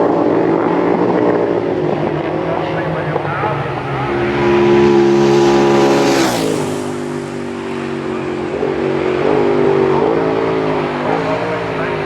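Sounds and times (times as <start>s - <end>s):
lower engine note: 0.0s - 12.0s
motorcycle passing at speed: 0.0s - 12.0s.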